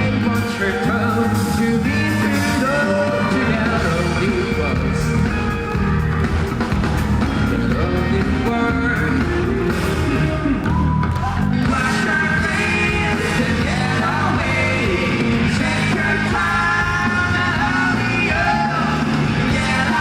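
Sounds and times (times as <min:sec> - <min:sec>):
person singing: 0:00.0 - 0:05.9, 0:07.2 - 0:20.0
rock band playing live: 0:00.0 - 0:20.0.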